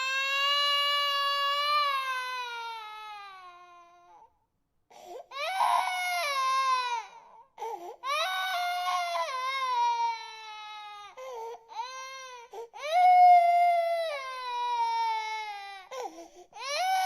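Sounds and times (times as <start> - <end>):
infant crying: 0.0 - 4.3, 4.9 - 17.0.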